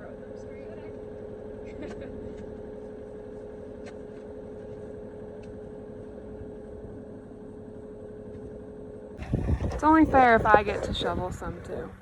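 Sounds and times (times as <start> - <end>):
excavator engine running: 0.1 - 12.0.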